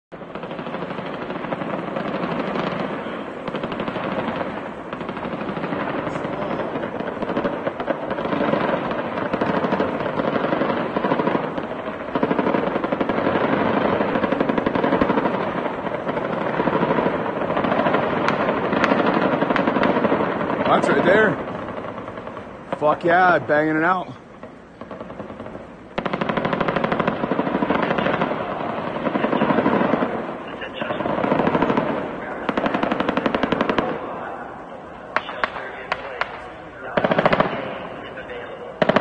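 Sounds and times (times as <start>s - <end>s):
automatic machine-gun fire: 0.3s - 23.2s, 24.8s - 34.0s, 37.0s - 37.8s, 38.8s - 39.0s.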